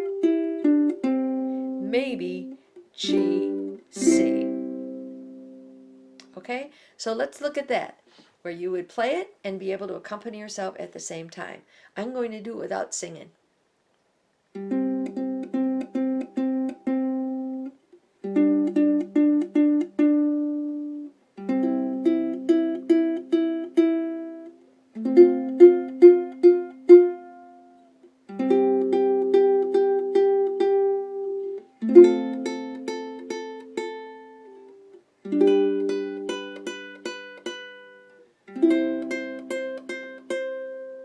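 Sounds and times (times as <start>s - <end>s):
ukulele plucking a melody: 0.0s - 6.4s, 14.5s - 41.0s.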